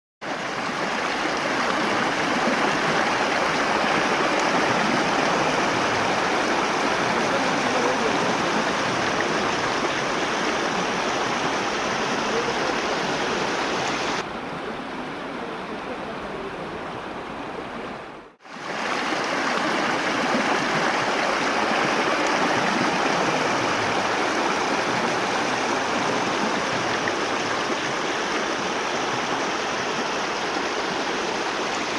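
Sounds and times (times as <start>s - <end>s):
water rushing over rocks: 0.2s - 14.3s, 14.9s - 31.9s.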